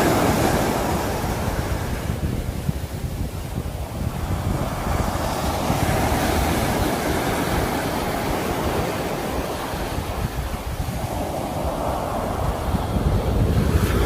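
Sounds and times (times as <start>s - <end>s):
sea waves breaking ashore: 0.0s - 14.0s.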